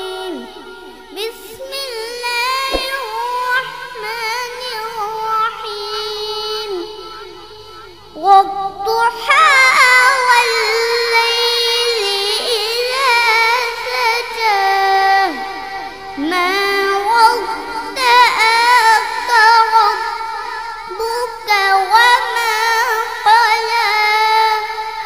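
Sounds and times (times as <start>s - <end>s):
boy chanting melodically: 0.0s - 25.0s.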